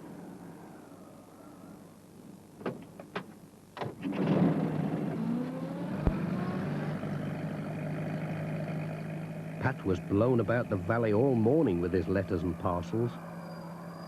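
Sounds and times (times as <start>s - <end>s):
van engine starting and running: 2.7s - 14.0s.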